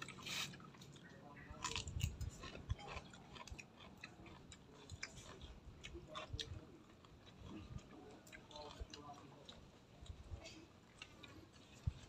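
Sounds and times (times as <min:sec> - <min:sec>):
person chewing raw vegetables: 0:00.0 - 0:12.0.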